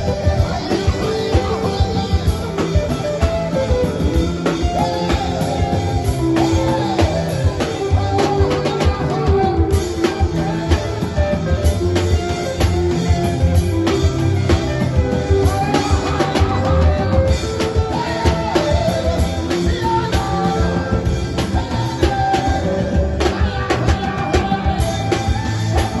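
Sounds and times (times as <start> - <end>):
drum beat: 0.0 - 26.0
gospel praise music: 0.0 - 26.0
guitar: 0.0 - 26.0
person singing: 0.0 - 26.0.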